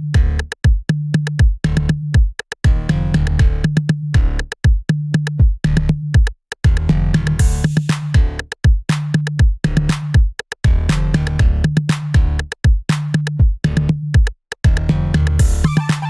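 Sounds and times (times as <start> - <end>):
electronic music with drum beat: 0.0 - 16.0.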